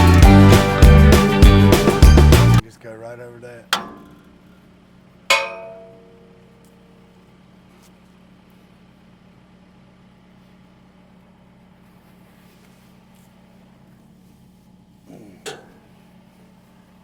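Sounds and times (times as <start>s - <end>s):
faint engine idling: 3.2s - 17.0s.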